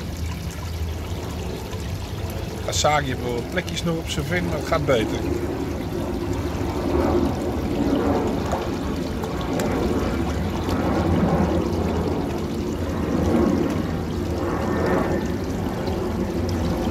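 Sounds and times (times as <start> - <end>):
water pouring into a pond: 0.0 - 16.9.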